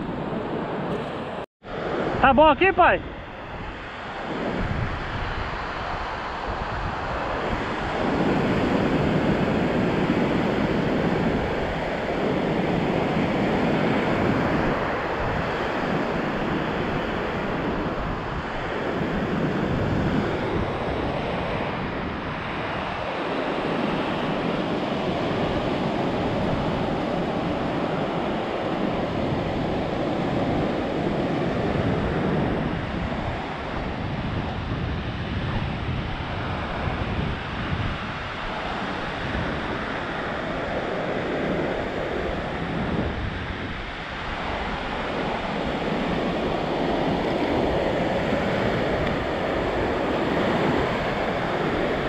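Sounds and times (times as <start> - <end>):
ocean surf breaking on beach: 0.0 - 52.0
wind buffeting microphone: 0.0 - 52.0.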